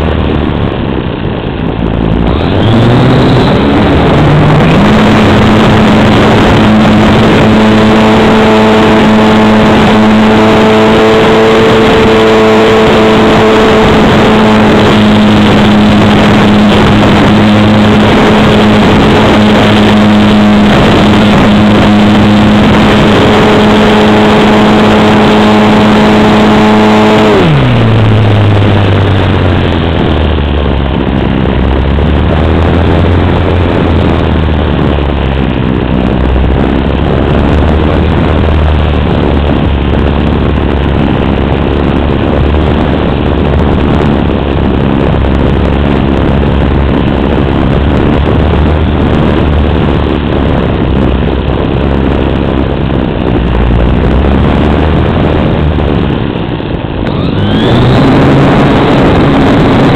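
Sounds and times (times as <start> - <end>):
high steady whine: 0.0 - 59.9
low steady hum: 0.0 - 59.9
wind rushing: 0.0 - 59.9.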